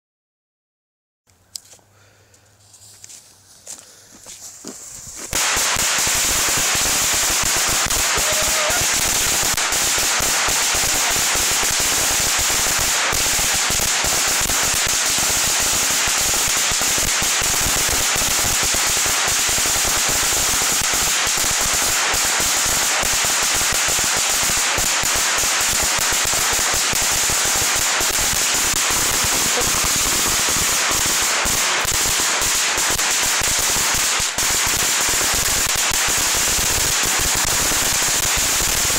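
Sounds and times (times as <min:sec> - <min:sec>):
firecrackers crackling: 0:03.0 - 0:38.9.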